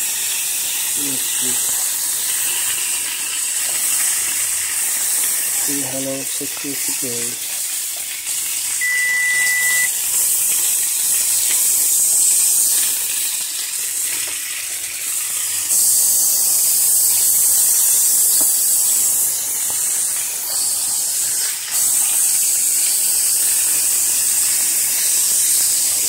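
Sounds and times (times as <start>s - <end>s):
meat sizzling on grill pan: 0.0s - 26.0s.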